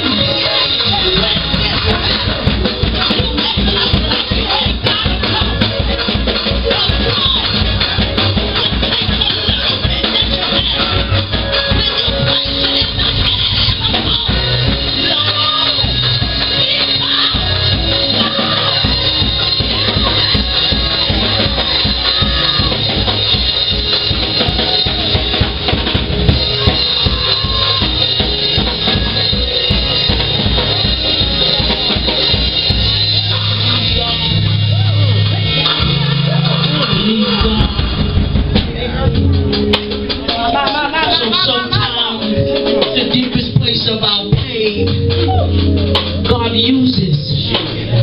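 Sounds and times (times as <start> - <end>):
drum kit beat: 0.0 - 48.0
live band music: 0.0 - 48.0.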